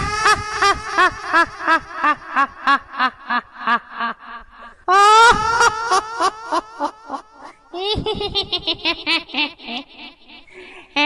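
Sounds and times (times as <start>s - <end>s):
high-pitched cackling laugh: 0.0s - 10.4s.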